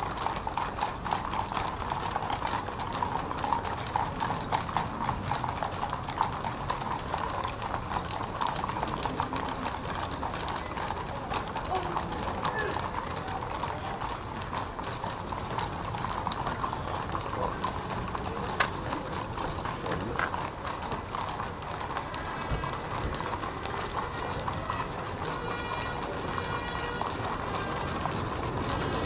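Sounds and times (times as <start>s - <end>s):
horses' hooves on asphalt: 0.0s - 29.0s.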